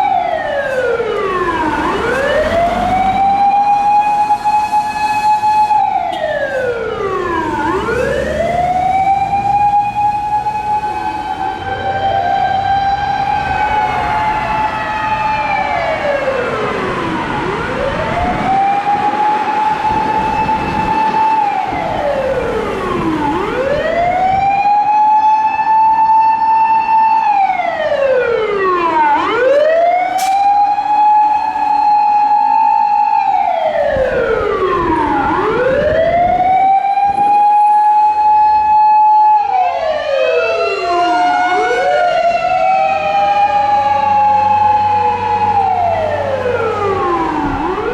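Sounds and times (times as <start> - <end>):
fire engine siren wailing: 0.0 - 47.9
second siren: 0.0 - 47.9.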